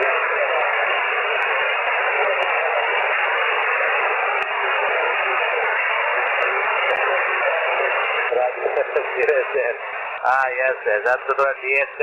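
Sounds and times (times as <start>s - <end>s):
radio band noise: 0.0s - 12.0s.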